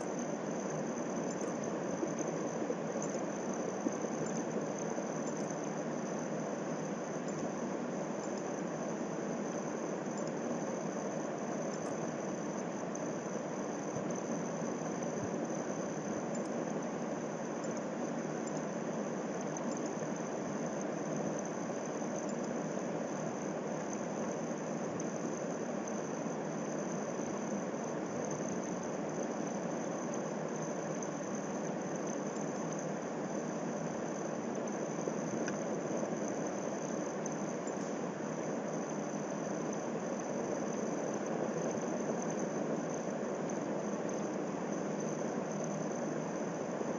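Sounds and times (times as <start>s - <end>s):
faint high-pitched whine: 0.0s - 46.9s.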